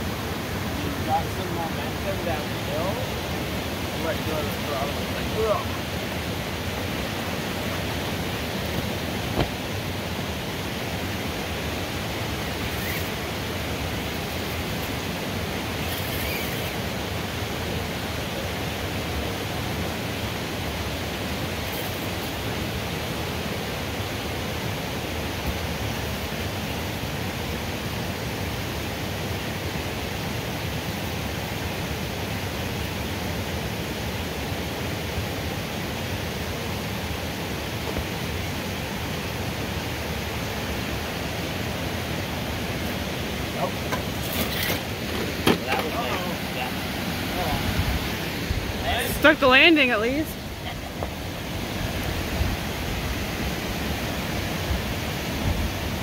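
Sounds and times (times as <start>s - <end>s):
rushing falling water: 0.0s - 56.0s.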